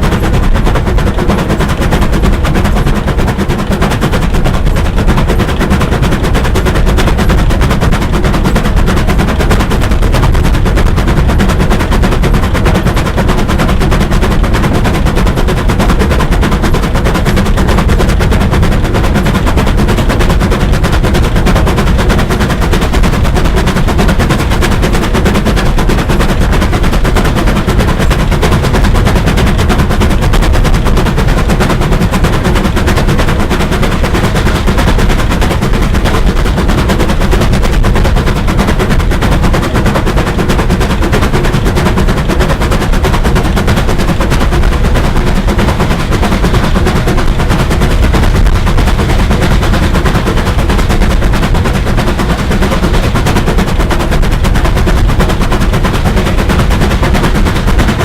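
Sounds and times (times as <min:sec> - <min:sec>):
heavy train rumble: 0:00.0 - 0:58.0
steam train clattering: 0:00.0 - 0:58.0.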